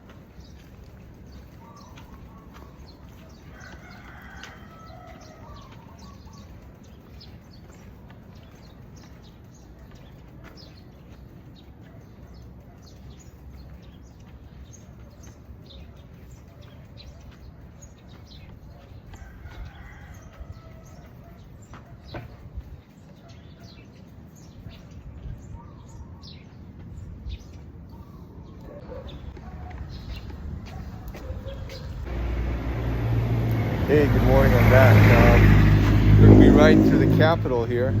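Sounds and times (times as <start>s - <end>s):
bird chirps: 0.0s - 32.5s.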